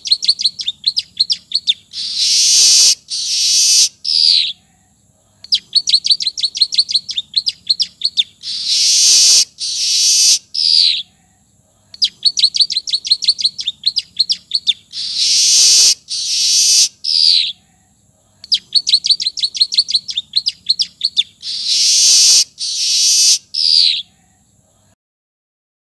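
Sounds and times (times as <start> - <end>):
bird song: 0.0 - 25.0.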